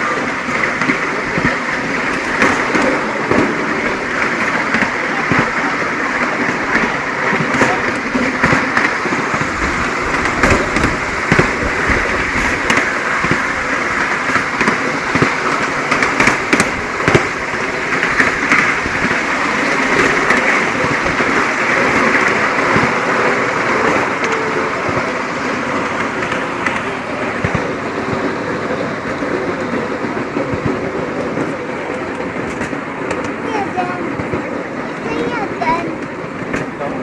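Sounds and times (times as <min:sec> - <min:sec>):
train wheels rattling on rails: 0:00.0 - 0:37.0.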